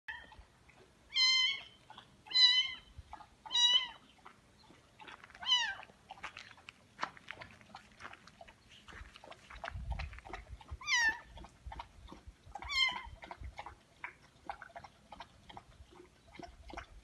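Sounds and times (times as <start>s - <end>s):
light ticks and rustles: 3.0s - 16.9s.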